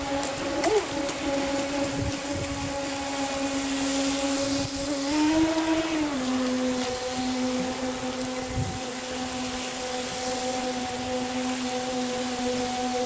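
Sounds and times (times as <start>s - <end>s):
electric motor whine: 0.0s - 13.0s
rushing river water: 0.0s - 13.0s.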